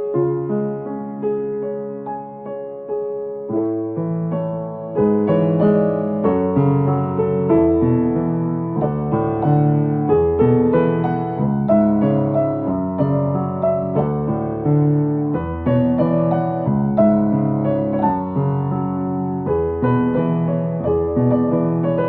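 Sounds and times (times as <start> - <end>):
piano playing gentle melody: 0.0 - 22.0.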